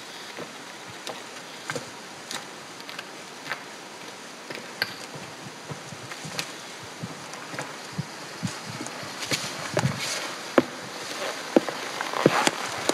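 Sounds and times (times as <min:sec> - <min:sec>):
faint outdoor hiss: 0:00.0 - 0:12.9
footsteps crunching on stones: 0:00.3 - 0:12.9.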